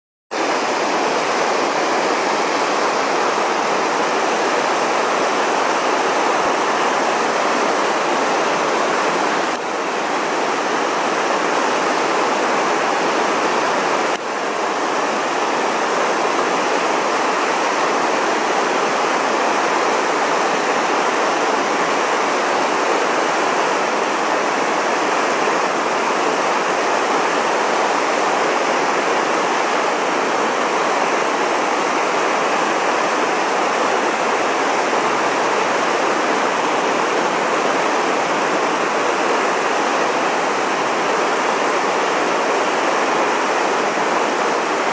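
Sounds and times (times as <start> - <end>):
stream running over rocks: 0.3 - 44.9.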